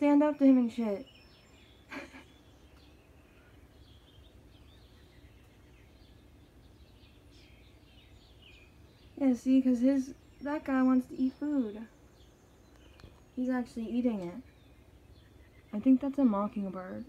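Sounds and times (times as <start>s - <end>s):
low background hum: 0.0s - 17.0s
small birds chirping faintly: 0.0s - 17.0s.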